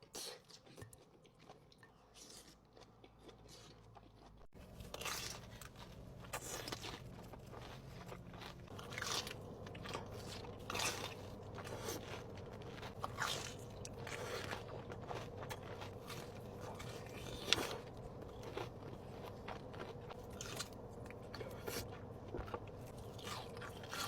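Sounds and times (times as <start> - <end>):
crunchy food chewing: 0.0 - 24.0.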